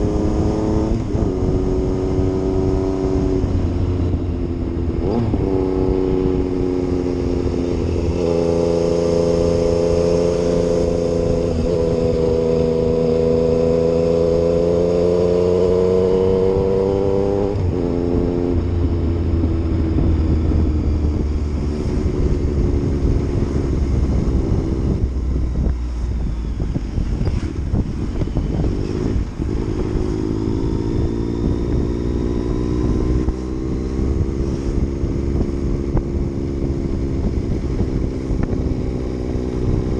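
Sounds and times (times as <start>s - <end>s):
motorcycle engine under way: 0.0s - 39.9s
wind and road noise: 0.0s - 39.9s.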